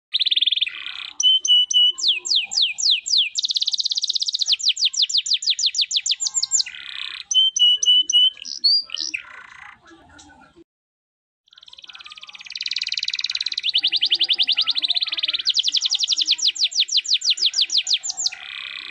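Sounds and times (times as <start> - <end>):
canary singing: 0.1 - 9.9, 11.5 - 18.9.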